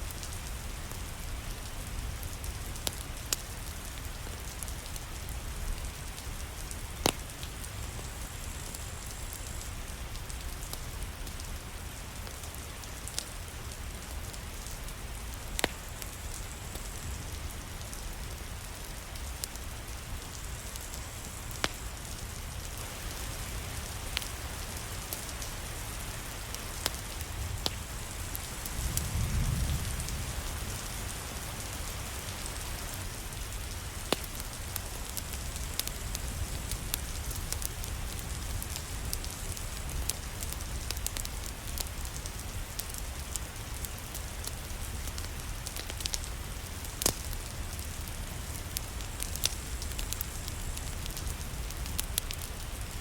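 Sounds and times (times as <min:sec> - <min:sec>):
rain: 0:00.0 - 0:53.0
fireplace crackling and popping: 0:00.1 - 0:53.0.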